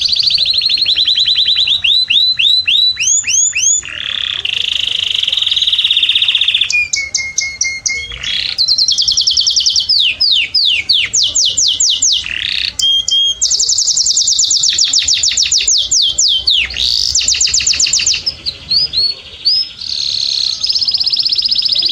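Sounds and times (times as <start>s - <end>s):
canary singing: 0.0s - 21.9s.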